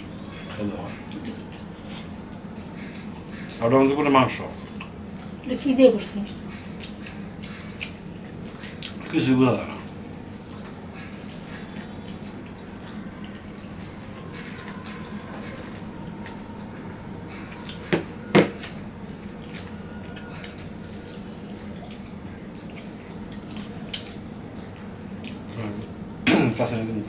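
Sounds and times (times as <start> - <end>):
chewing: 0.9 - 5.5, 6.2 - 17.9, 19.0 - 26.1.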